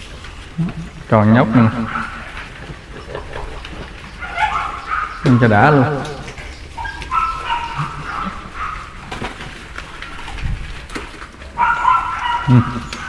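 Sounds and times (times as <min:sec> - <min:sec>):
puppies whining: 0:00.3 - 0:13.0.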